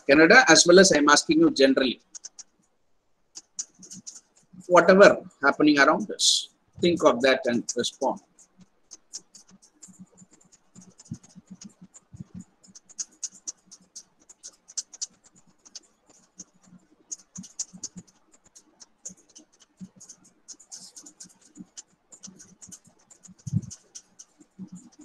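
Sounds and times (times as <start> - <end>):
faint clicking and scratching: 0.0 - 25.0.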